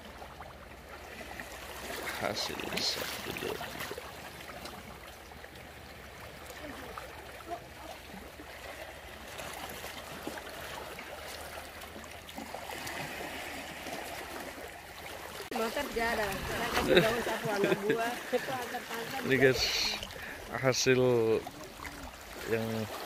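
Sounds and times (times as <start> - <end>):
shallow sea water washing: 0.0 - 23.0.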